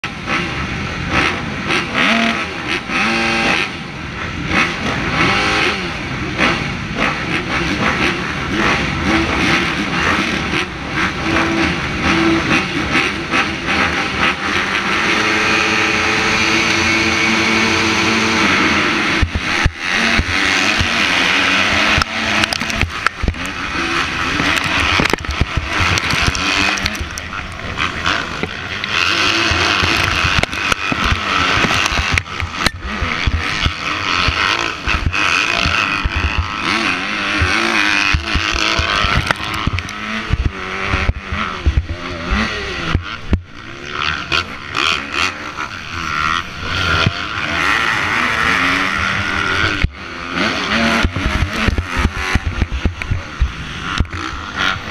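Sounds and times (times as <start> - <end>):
motocross bike engine revving: 0.0 - 54.9
other dirt bikes running: 0.0 - 54.9.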